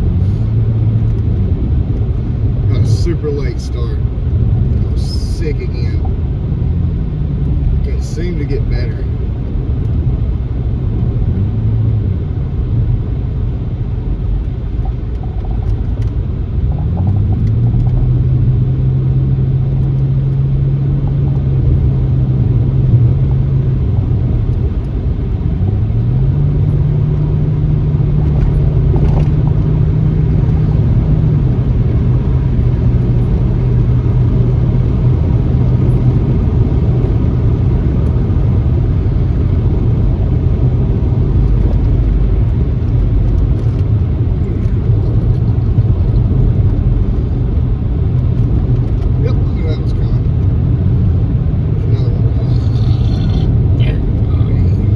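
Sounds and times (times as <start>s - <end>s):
car engine: 0.0s - 54.9s
road and tyre noise: 0.0s - 54.9s.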